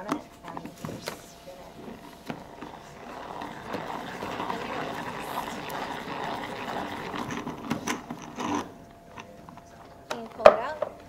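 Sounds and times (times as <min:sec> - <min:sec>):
salad spinner whirring: 0:00.5 - 0:09.8.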